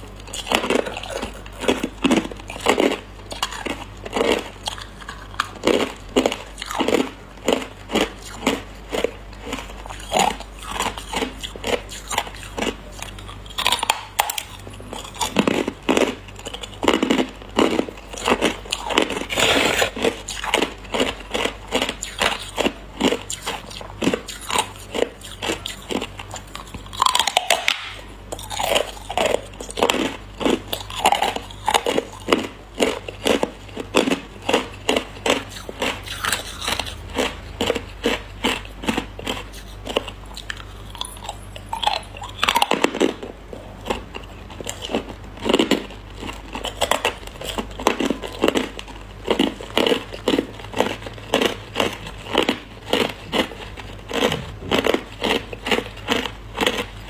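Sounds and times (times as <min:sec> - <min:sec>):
ice crunching between teeth: 0:00.2 - 0:57.0.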